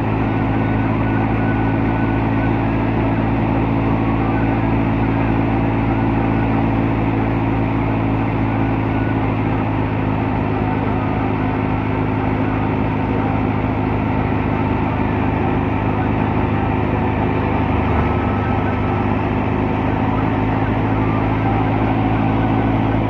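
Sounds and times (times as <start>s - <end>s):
thresher drum and blower running: 0.0s - 23.0s
tractor diesel engine running: 0.0s - 23.0s.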